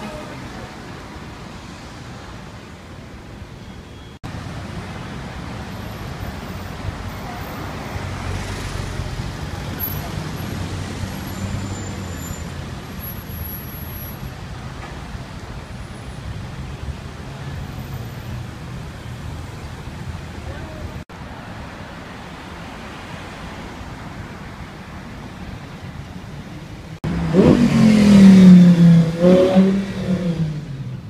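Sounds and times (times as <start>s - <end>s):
cars passing and idling: 0.0s - 31.0s.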